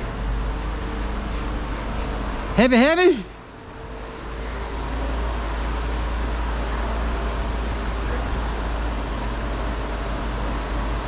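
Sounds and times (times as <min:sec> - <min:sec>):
vehicle running rumble and hiss: 0:00.0 - 0:11.0.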